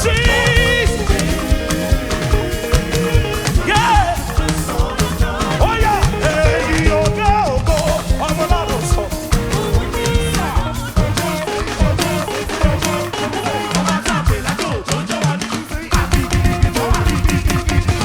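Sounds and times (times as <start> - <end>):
drum kit beat: 0.0 - 18.0
gospel band playing: 0.0 - 18.0
person singing melodic runs: 0.0 - 18.0.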